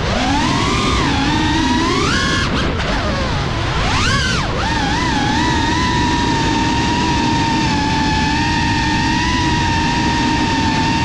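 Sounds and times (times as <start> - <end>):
drone motors whining: 0.0 - 11.0
rough low airflow rumble: 0.0 - 11.0.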